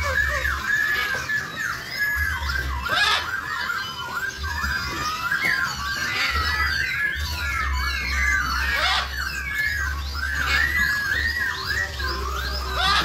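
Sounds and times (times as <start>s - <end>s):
small birds chirping and whistling: 0.0s - 13.0s.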